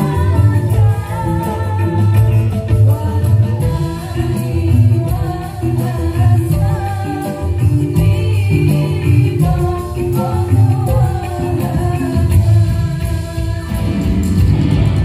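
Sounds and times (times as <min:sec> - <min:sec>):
woman singing: 0:00.0 - 0:14.5
hand drums: 0:00.0 - 0:15.0
live band playing: 0:00.0 - 0:15.0.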